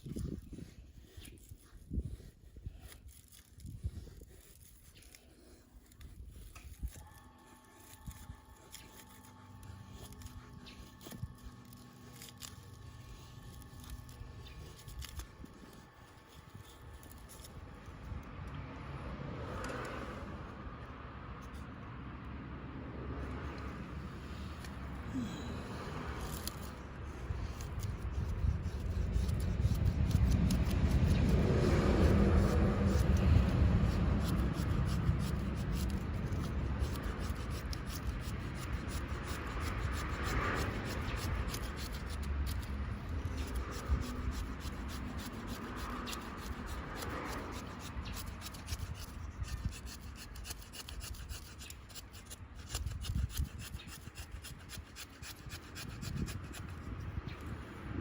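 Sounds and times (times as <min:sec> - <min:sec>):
knife scraping wooden stick: 0:00.0 - 0:18.5, 0:23.3 - 0:57.8.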